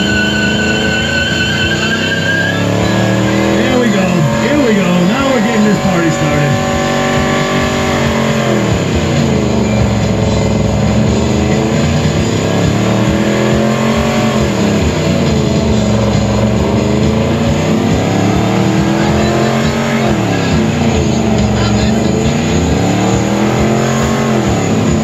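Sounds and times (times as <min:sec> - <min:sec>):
car engine revving: 0:00.0 - 0:25.0
tyres spinning: 0:00.0 - 0:25.0.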